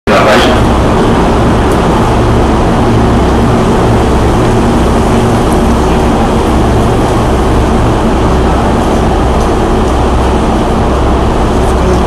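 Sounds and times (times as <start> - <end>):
electric trains humming and rumbling: 0.1 - 12.0.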